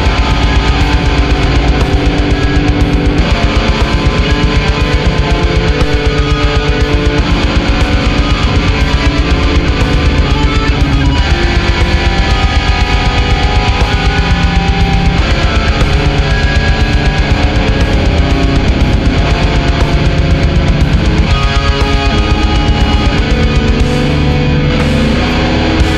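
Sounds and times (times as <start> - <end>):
distorted electric guitar chords: 0.0 - 25.9
rapid dense drumming: 0.0 - 25.9.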